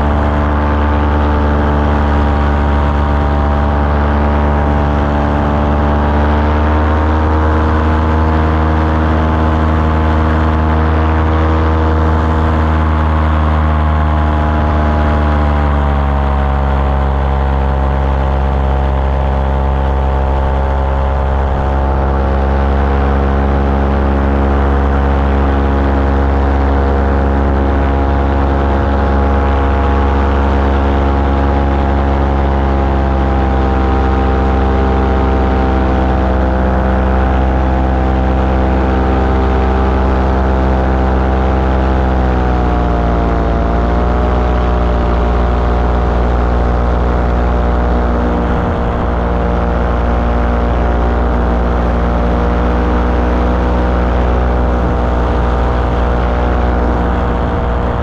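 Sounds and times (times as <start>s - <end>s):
small aircraft engine: 0.0s - 58.0s.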